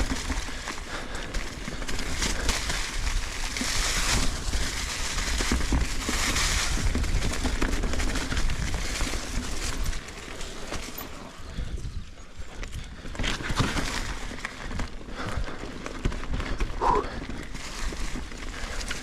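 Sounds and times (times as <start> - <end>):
bike rattling: 0.0 - 19.0
tyres crunching over dirt: 0.0 - 19.0
wind rumbling on microphone: 1.6 - 10.2, 11.4 - 19.0.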